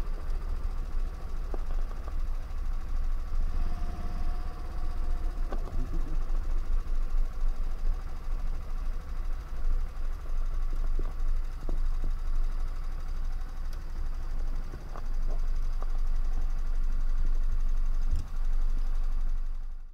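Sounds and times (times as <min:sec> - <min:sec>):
kart engine running and idling: 0:00.0 - 0:19.9
low rumble: 0:00.0 - 0:19.9.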